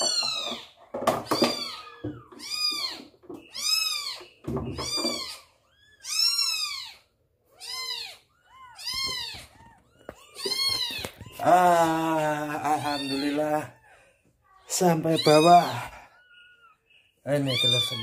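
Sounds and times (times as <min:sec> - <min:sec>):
kittens meowing: 0:00.0 - 0:18.0.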